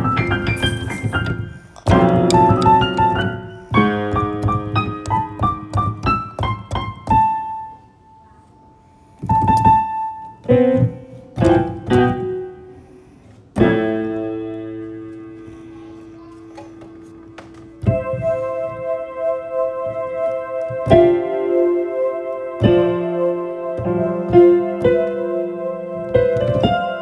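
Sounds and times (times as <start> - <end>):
solo piano melody: 0.0 - 27.0.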